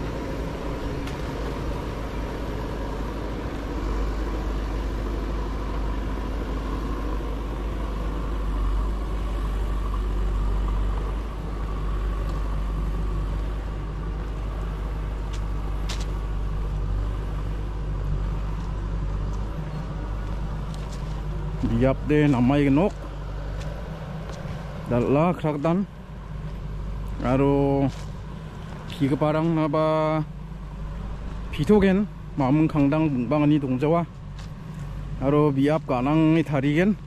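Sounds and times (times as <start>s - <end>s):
vehicle engine humming: 0.0s - 37.0s.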